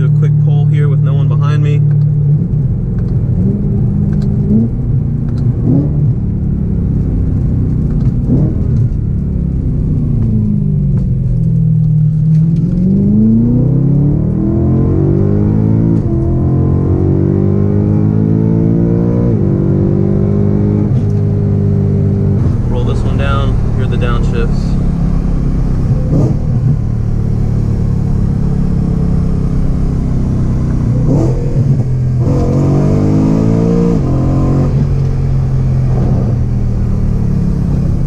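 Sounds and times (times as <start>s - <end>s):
car exhaust accelerating: 0.0s - 38.0s.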